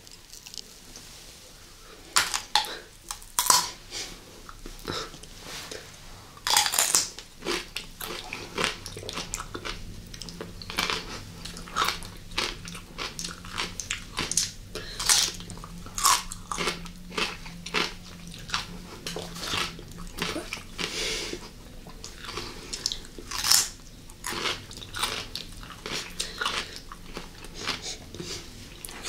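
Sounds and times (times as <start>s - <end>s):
cucumber crunching and chewing: 0.0s - 0.7s, 2.1s - 3.8s, 6.4s - 29.0s.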